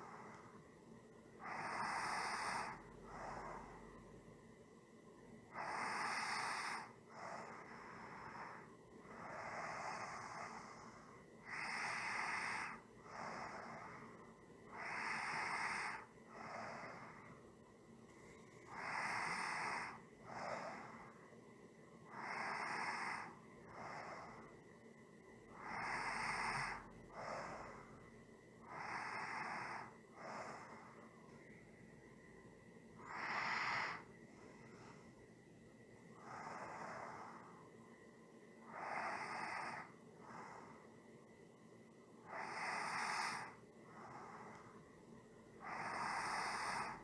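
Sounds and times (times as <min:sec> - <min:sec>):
person breathing slowly: 0:00.0 - 0:04.2, 0:05.5 - 0:17.5, 0:18.1 - 0:21.4, 0:22.0 - 0:24.7, 0:25.5 - 0:31.9, 0:33.0 - 0:35.3, 0:36.0 - 0:38.0, 0:38.6 - 0:41.4, 0:42.2 - 0:47.0.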